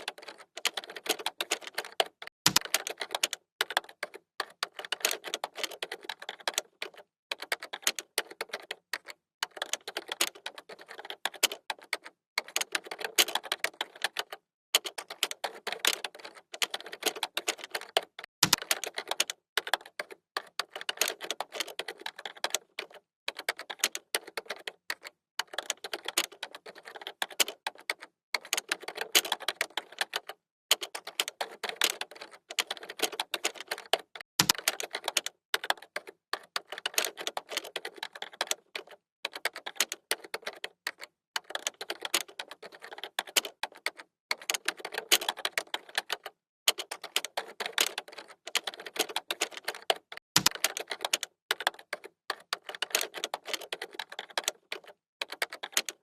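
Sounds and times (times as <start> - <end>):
keyboard typing: 0.0 - 56.0.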